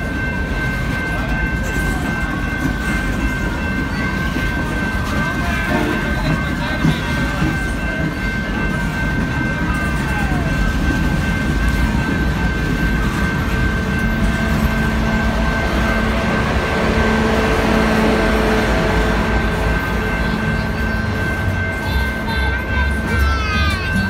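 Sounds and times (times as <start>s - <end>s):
steady high tone: 0.0s - 24.0s
train wheels rumbling on rails: 0.0s - 24.0s.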